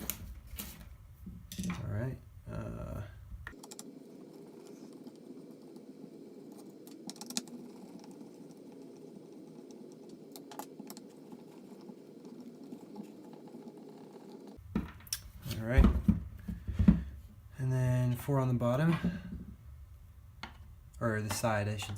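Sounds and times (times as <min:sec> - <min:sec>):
steady low hiss: 0:00.0 - 0:13.2, 0:14.5 - 0:21.9.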